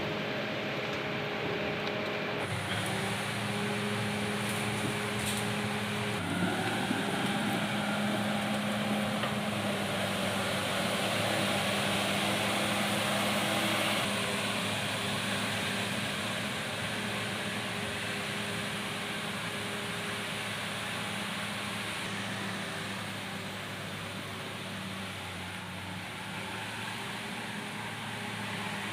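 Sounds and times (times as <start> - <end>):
bulldozer diesel engine running: 0.0 - 28.9.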